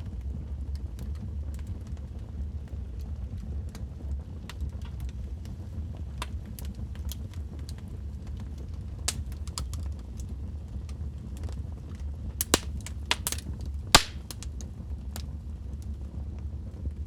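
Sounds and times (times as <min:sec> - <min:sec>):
low fire rumble: 0:00.0 - 0:17.0
logs crackling in fireplace: 0:00.2 - 0:16.4.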